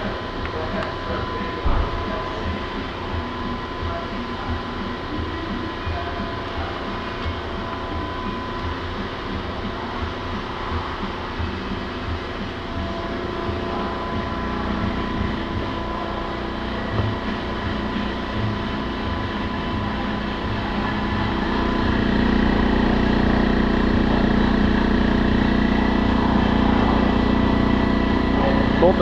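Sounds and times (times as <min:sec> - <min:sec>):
vacuum pump running: 0:00.0 - 0:29.0.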